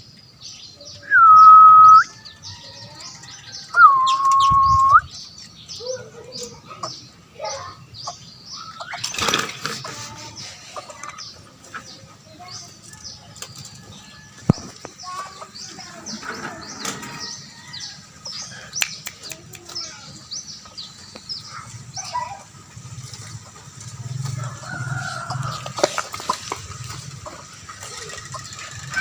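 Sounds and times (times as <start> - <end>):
chicks begging calls: 0.0 - 29.0.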